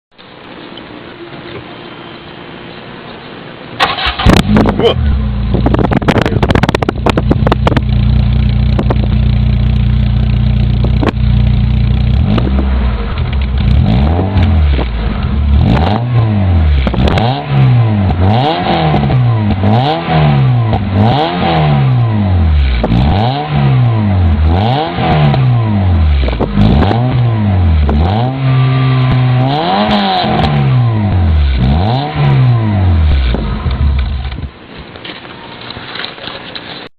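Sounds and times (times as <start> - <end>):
car engine idling and revving: 3.8 - 34.6.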